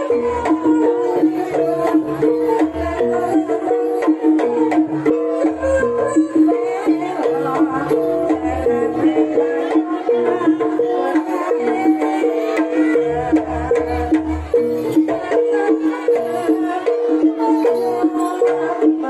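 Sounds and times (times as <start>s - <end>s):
pitched percussion melody: 0.0s - 19.0s.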